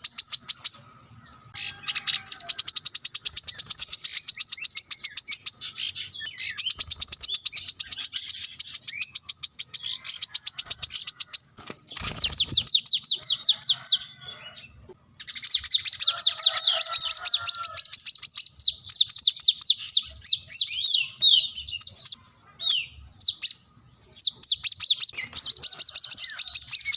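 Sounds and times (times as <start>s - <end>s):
bird singing high thin chirps: 0.0s - 26.9s.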